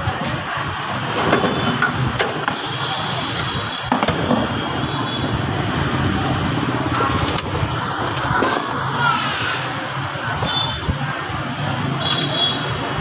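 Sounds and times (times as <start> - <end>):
passing motor vehicles hum: 0.0 - 13.0.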